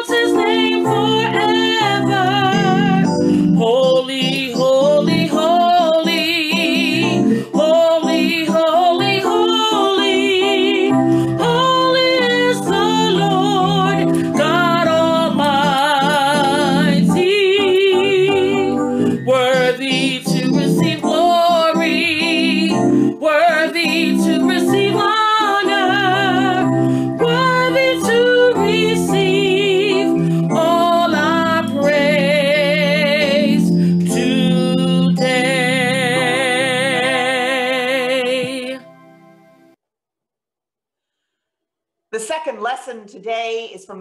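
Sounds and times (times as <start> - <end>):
woman singing with vibrato: 0.0 - 39.0
instrumental accompaniment: 0.0 - 39.8.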